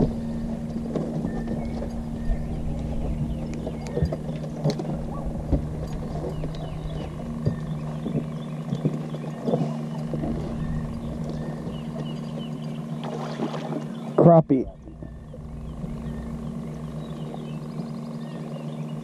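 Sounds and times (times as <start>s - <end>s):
boat motor humming: 0.0s - 19.0s
knocks and clicks on boat: 0.0s - 19.0s.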